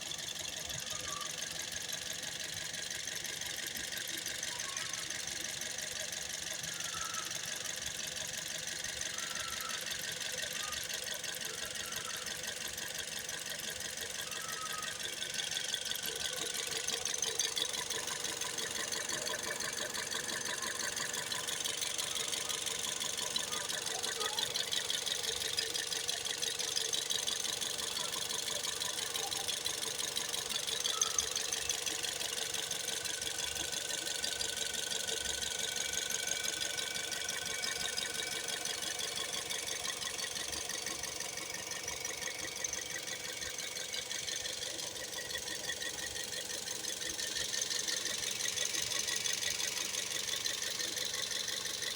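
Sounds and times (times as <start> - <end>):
engine running with ticking rattle: 0.0 - 51.9.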